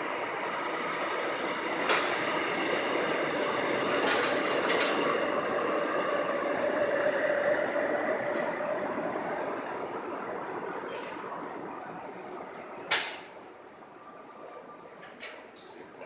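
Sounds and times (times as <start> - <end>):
train wheels rumbling on rail: 0.0 - 15.8
steady whine: 0.0 - 16.0.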